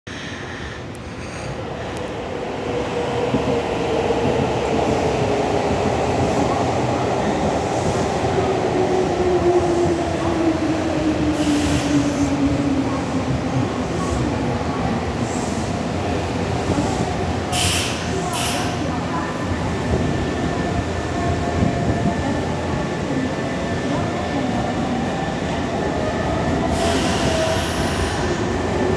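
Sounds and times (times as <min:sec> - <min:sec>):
train wheels rumbling on rail: 0:00.2 - 0:28.9.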